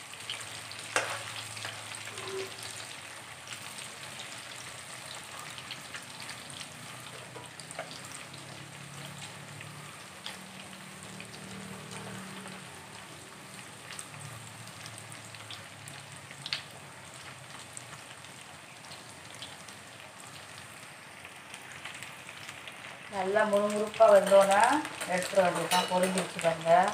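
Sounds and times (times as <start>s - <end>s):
oil sizzling with crackles: 0.0s - 26.9s.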